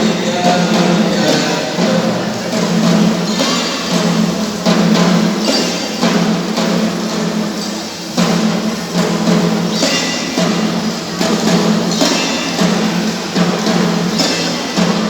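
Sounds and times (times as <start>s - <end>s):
marching drum band playing: 0.0s - 15.0s.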